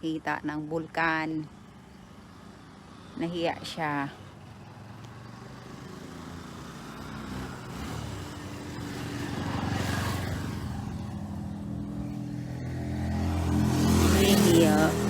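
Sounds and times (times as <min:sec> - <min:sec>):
motor vehicle passing: 0:01.8 - 0:15.0.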